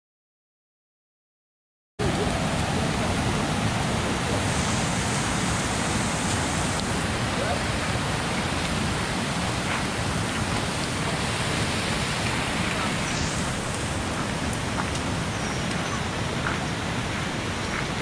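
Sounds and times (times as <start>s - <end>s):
steady rushing noise: 2.0s - 18.0s.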